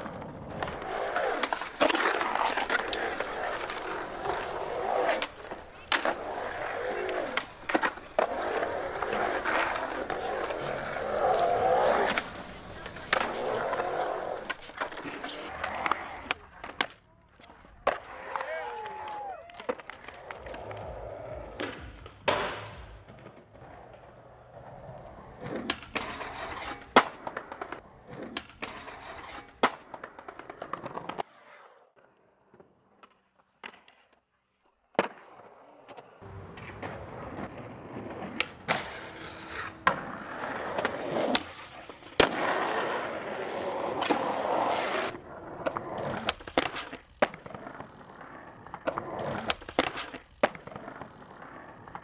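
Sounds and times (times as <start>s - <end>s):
skateboard clacks and slaps: 0.0s - 34.3s, 34.9s - 52.0s
skateboard wheels rolling on concrete: 0.0s - 52.0s.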